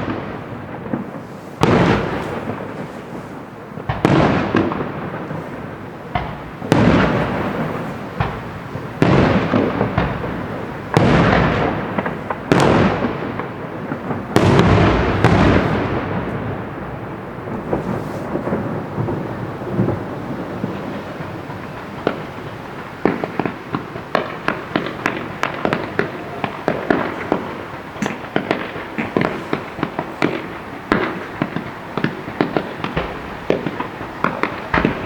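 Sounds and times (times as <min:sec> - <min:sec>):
small firework pops: 0:00.0 - 0:16.6, 0:17.6 - 0:35.0
crackling firework tail: 0:00.0 - 0:35.0
firework shells bursting: 0:00.0 - 0:35.0.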